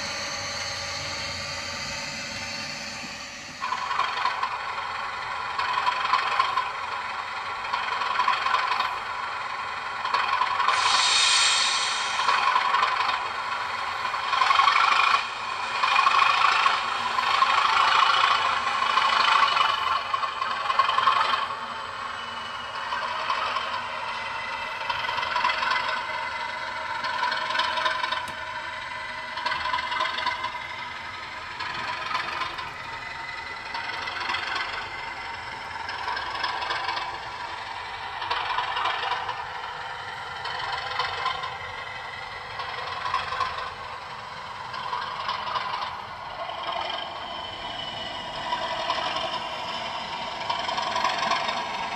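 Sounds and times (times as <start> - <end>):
diesel engine sound from small speaker: 0.0 - 51.9
model train running gear clatter: 3.6 - 51.9.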